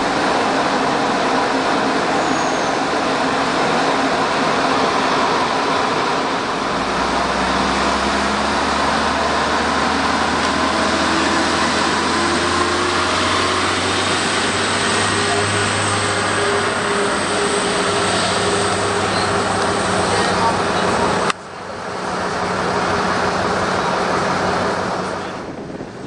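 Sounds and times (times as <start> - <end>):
diesel train engine droning: 0.0 - 26.0
train rolling noise: 0.0 - 26.0.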